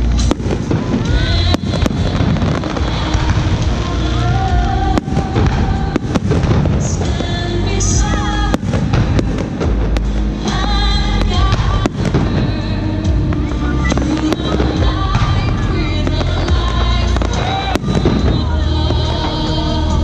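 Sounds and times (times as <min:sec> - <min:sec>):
fireworks bursting: 0:00.0 - 0:20.0
music playing: 0:00.0 - 0:20.0.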